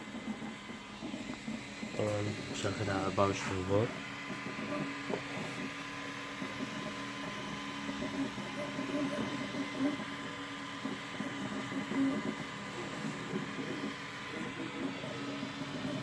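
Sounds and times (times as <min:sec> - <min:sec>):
stepper motors whirring: 0:00.0 - 0:16.0.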